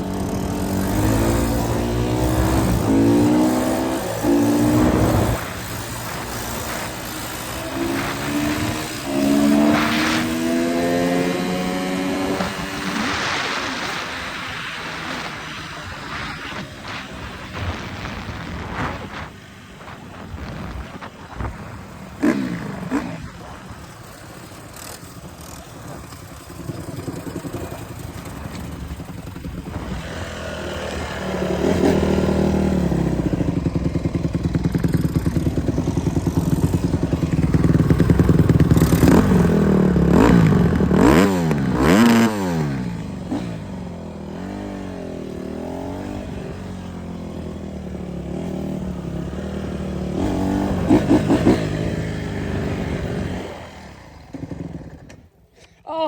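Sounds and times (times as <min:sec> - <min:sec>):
dirt bike engine revving: 0:00.0 - 0:19.4, 0:22.2 - 0:55.2.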